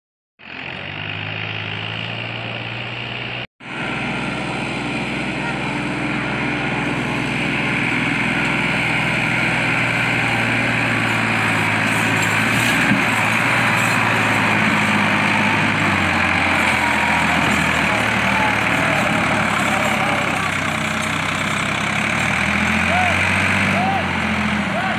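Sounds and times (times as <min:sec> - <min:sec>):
tractor engine straining: 0:00.4 - 0:24.9.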